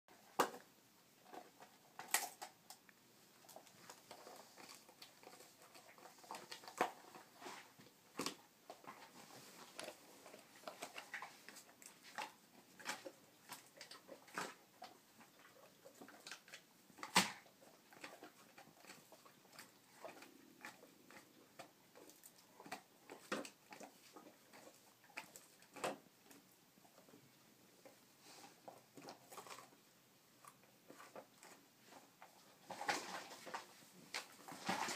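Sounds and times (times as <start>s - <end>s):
dog gnawing a chew bone: 0.2s - 34.9s.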